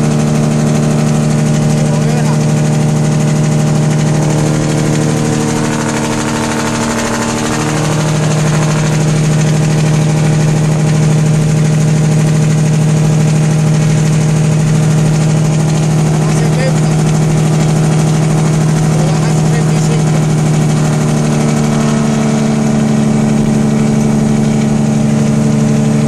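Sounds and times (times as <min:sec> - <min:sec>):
truck diesel engine hum: 0:00.0 - 0:26.0.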